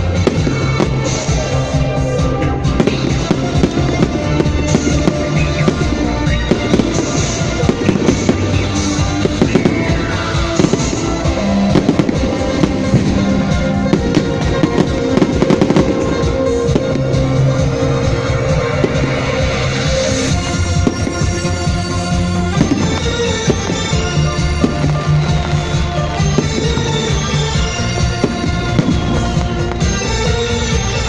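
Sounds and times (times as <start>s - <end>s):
fireworks crackling and banging: 0.0s - 31.0s
music playing: 0.0s - 31.0s.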